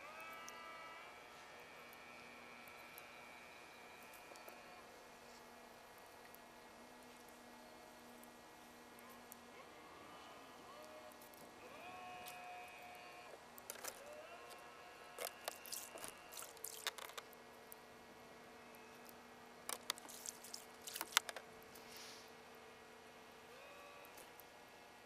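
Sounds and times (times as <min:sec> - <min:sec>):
faint steady tones: 0:00.0 - 0:25.0.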